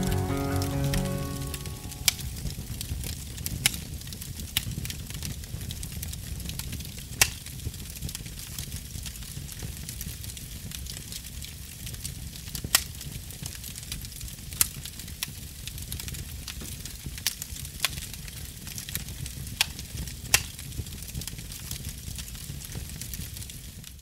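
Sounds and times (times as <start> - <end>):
fire crackling and hissing: 3.3 - 24.0.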